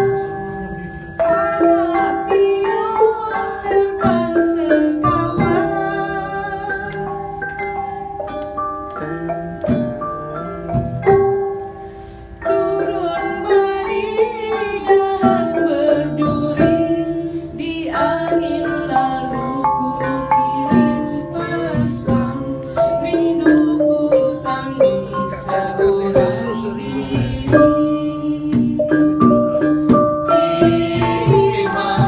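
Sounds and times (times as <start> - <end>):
gamelan ensemble playing: 0.0 - 32.0.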